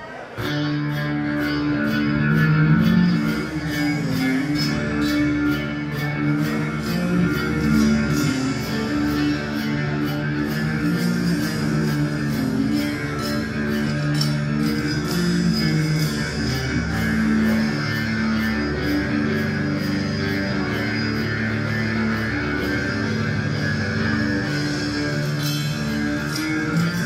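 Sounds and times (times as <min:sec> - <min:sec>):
electric guitar: 0:00.0 - 0:27.0
bass guitar: 0:00.1 - 0:27.0.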